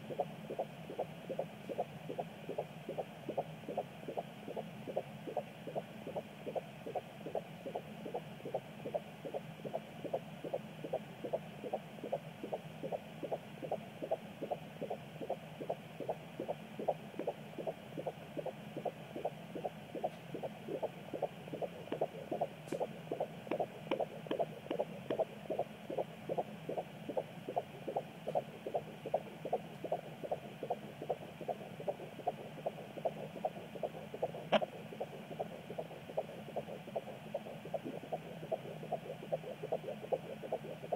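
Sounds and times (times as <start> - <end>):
fetal heartbeat pulses: 0.0 - 40.9.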